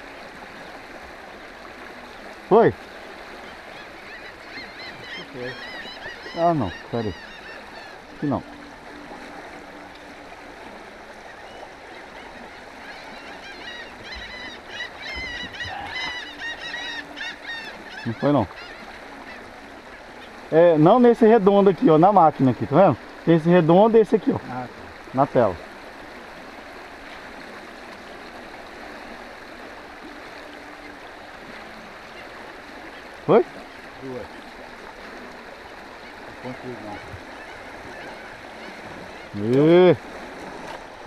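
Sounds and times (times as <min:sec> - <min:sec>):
birds calling: 0:00.0 - 0:41.0
river water rushing: 0:00.0 - 0:41.0.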